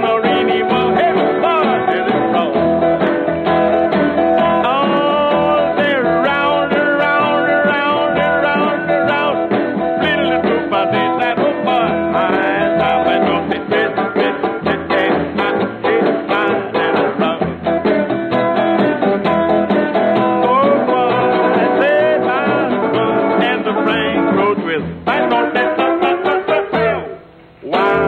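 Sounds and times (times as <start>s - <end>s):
man singing: 0.0s - 3.2s, 3.8s - 17.7s, 18.3s - 28.0s
strummed guitar: 0.0s - 28.0s.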